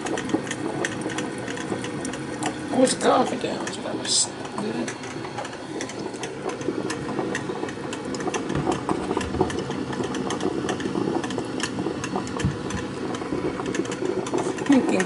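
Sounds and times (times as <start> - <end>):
coffee maker gurgling: 0.0 - 15.0.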